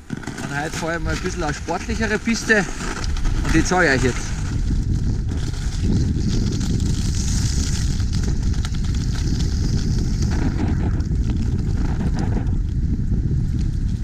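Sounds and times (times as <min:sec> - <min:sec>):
skis sliding over snow: 0:00.0 - 0:12.7
wind buffeting microphone: 0:00.0 - 0:14.0.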